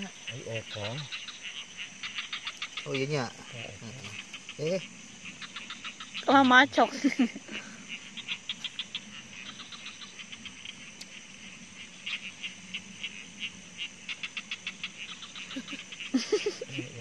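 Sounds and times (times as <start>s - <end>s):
crickets trilling: 0.0s - 17.0s
rapid cricket chirping pulses: 0.0s - 17.0s.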